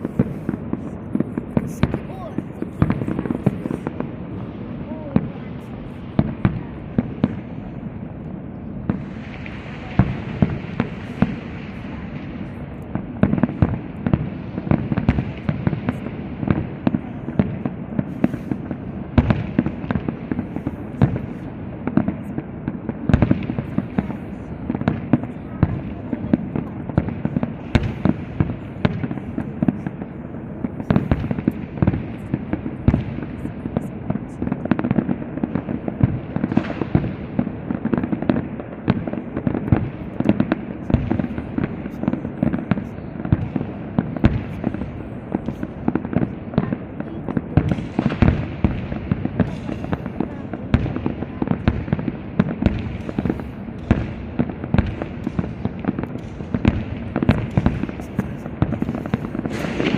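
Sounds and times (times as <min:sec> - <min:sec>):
fireworks bursts and crackling bangs: 0:00.0 - 0:59.9.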